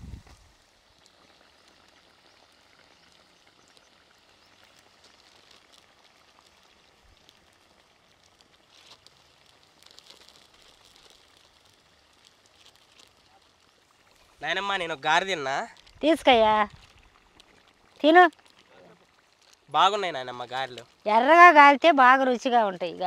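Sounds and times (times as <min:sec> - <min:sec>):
soft steady hiss: 0:00.0 - 0:23.0.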